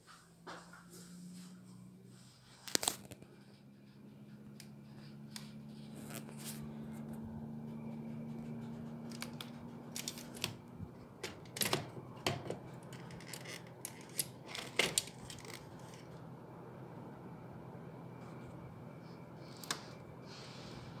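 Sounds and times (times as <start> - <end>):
air conditioner hum: 0.0 - 21.0.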